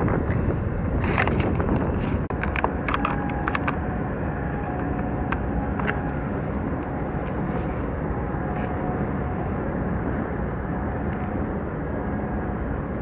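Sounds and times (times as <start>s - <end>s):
boat engine rumble: 0.0s - 13.0s
faint steady whine: 0.0s - 13.0s.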